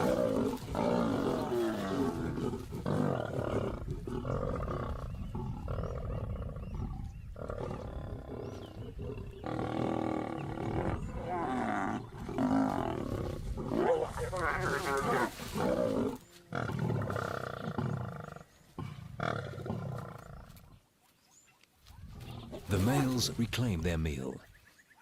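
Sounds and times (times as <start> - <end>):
lions snarling and growling: 0.0 - 20.8, 22.0 - 23.2.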